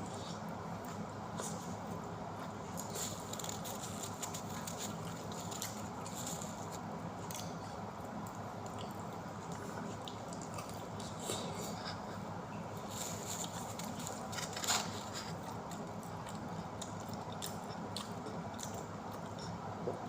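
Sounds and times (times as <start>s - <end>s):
steady low hum: 0.0s - 20.0s
chewing and biting food: 0.1s - 12.2s, 12.8s - 20.0s.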